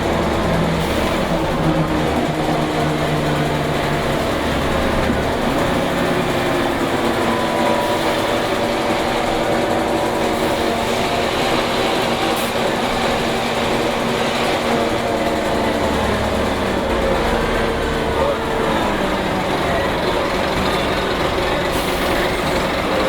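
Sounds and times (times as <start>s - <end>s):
bus diesel engine drone: 0.0s - 23.0s
road rumble: 0.0s - 23.0s.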